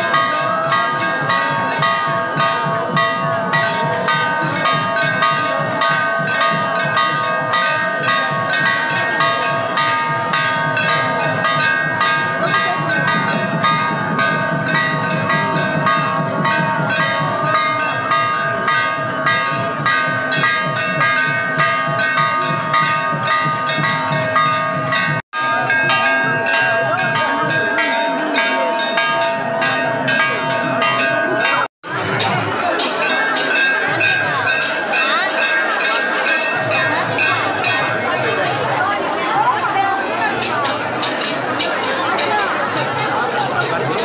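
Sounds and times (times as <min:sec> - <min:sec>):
bells ringing rapidly: 0:00.0 - 0:44.0
crowd voices: 0:00.0 - 0:44.0.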